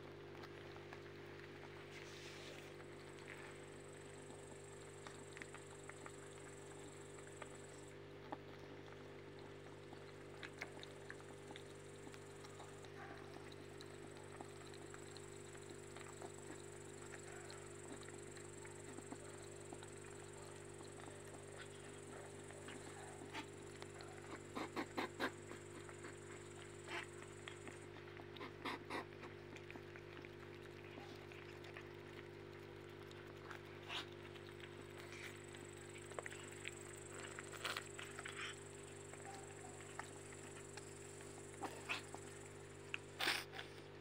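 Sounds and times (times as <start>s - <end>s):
animals chewing and smacking: 0.0s - 44.0s.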